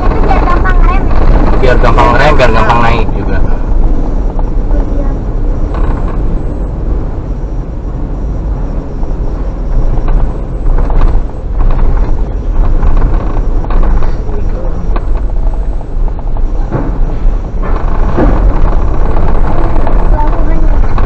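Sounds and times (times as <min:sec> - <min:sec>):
engines rumbling in enclosed deck: 0:00.0 - 0:21.0.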